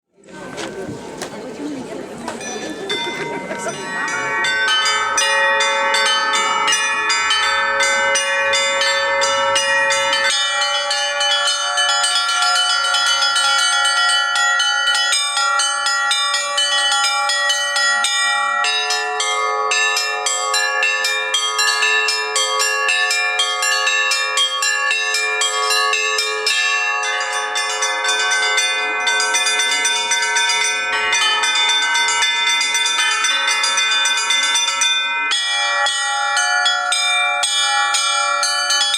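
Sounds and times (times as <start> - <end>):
church bells ringing: 0.4 - 38.9.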